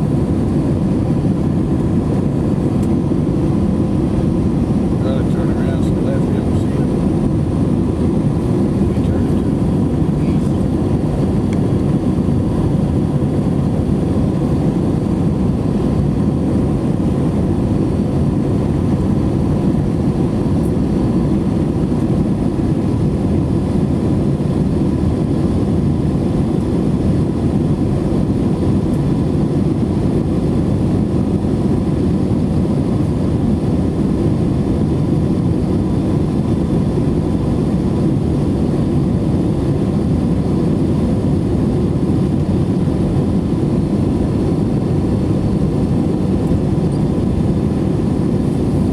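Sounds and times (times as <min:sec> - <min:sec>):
airplane cabin roar: 0:00.0 - 0:48.9.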